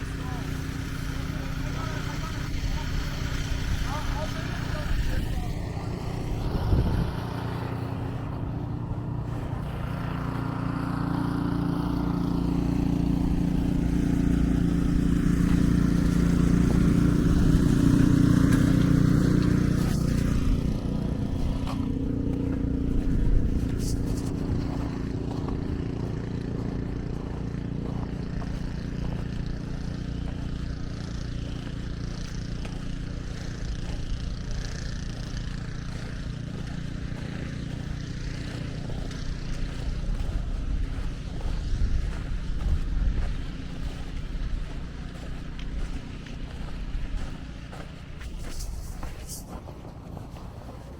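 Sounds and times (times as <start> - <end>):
vehicle engine humming: 0.0 - 50.9.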